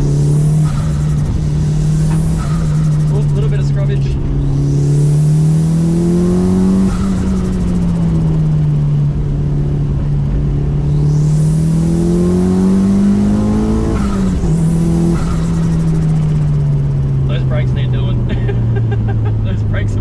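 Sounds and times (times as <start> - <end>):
turbo flutter: 0.0 - 18.3
car engine revving: 0.0 - 20.0.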